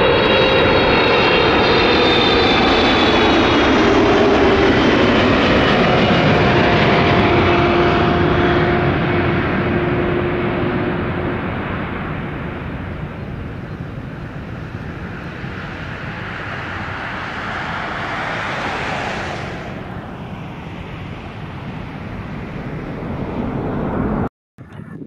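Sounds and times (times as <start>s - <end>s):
jet engines roaring past: 0.0s - 24.8s.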